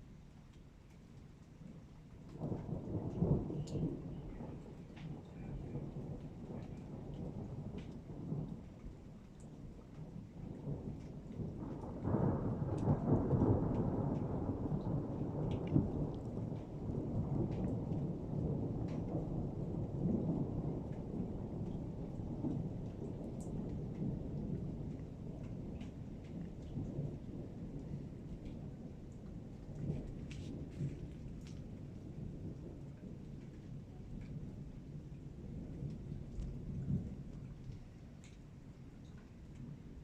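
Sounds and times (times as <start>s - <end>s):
raindrops ticking close by: 0.0s - 40.0s
steady rain: 0.0s - 40.0s
rolling thunder: 2.3s - 38.4s.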